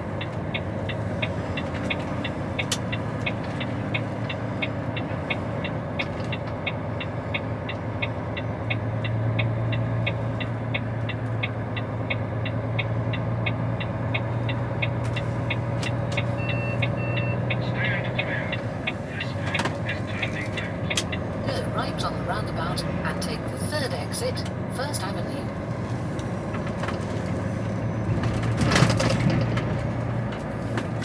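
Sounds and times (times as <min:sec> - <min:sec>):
turn signal indicator ticking: 0:00.0 - 0:25.4
diesel engine drone: 0:00.0 - 0:31.0.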